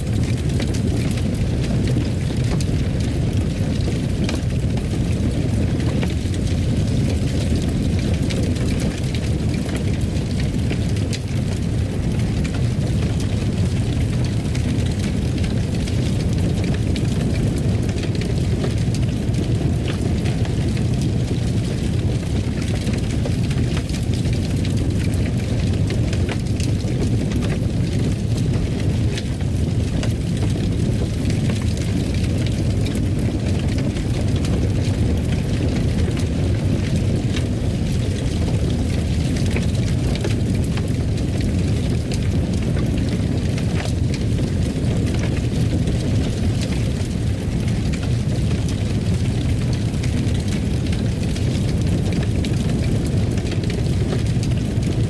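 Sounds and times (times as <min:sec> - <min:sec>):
fire burning in a fireplace: 0:00.0 - 0:55.0
small crackles and pops: 0:00.0 - 0:55.0.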